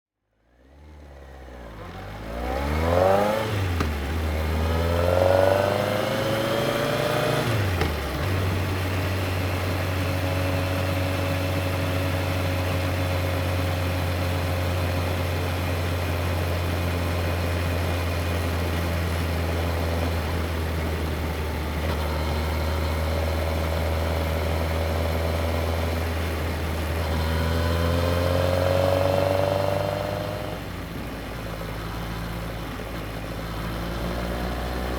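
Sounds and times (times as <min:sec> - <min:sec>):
motorcycle engine accelerating: 0:00.6 - 0:34.9.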